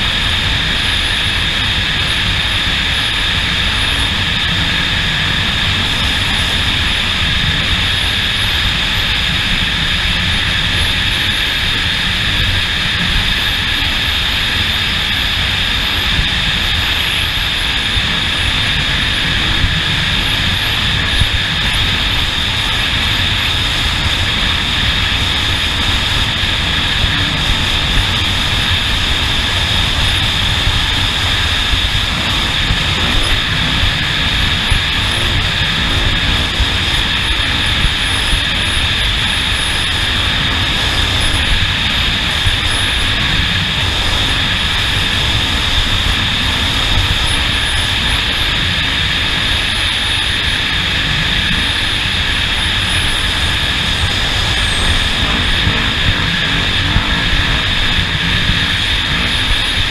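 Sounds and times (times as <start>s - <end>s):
motor drone with high whine: 0.0s - 59.9s.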